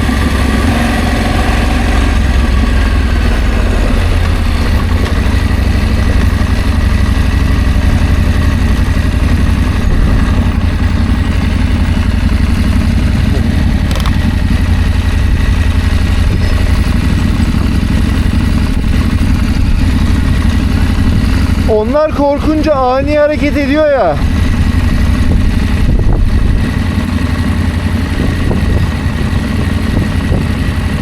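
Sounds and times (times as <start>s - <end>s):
wind rumble on microphone: 0.0s - 21.8s, 24.2s - 31.0s
motorcycle engine running: 0.0s - 31.0s.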